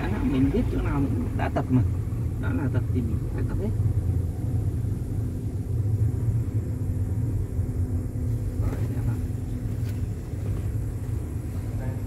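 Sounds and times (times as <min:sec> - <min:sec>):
car engine and tyres rumbling: 0:00.0 - 0:12.0
constant hum: 0:00.0 - 0:12.0.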